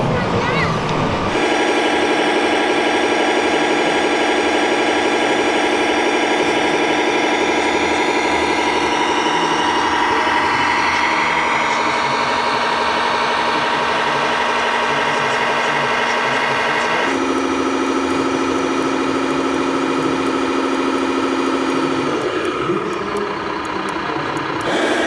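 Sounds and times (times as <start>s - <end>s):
toy diesel truck engine running: 0.0s - 25.0s.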